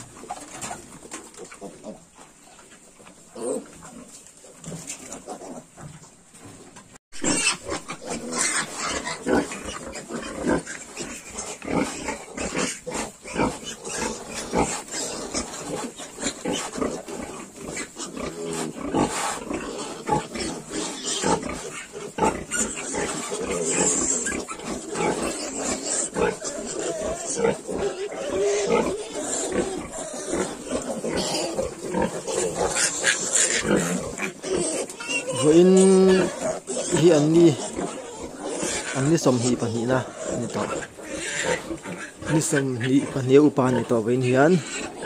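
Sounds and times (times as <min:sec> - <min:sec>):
pigs grunting and squealing: 0:03.2 - 0:05.9, 0:07.2 - 0:45.0.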